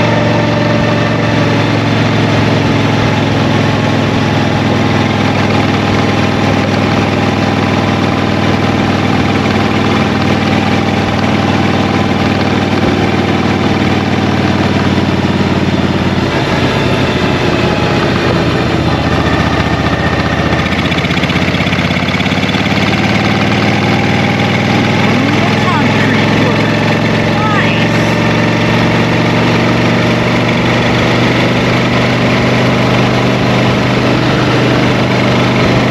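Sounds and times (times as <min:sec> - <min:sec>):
motorcycle engine running: 0:00.0 - 0:35.9
wind and road noise: 0:00.0 - 0:35.9.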